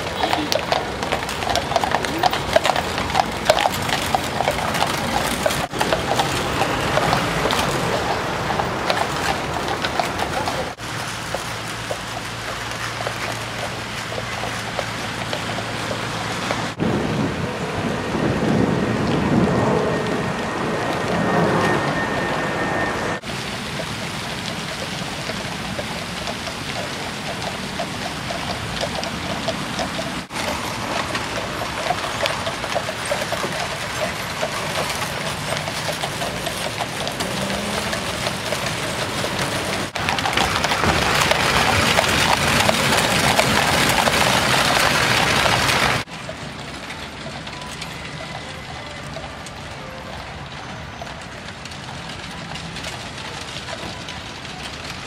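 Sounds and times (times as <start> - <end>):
horse hooves clattering on road: 0.0 - 55.0
iron wheels rumbling on rails: 0.0 - 55.0.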